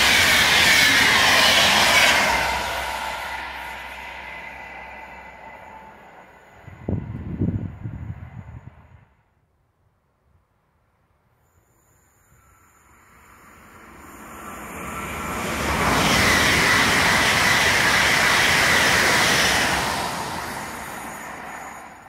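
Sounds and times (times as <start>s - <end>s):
electric train passing at speed: 0.0s - 9.4s, 11.0s - 22.0s.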